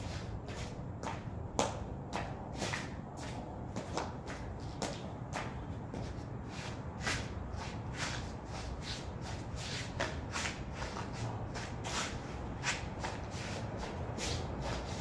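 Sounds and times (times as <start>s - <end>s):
sneakers scuffing on tiles: 0.0s - 15.0s.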